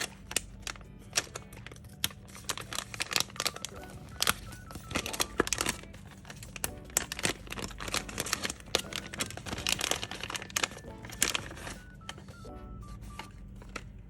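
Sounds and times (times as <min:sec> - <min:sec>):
packaging crinkling: 0:00.0 - 0:14.0
quiet background music: 0:00.0 - 0:14.0.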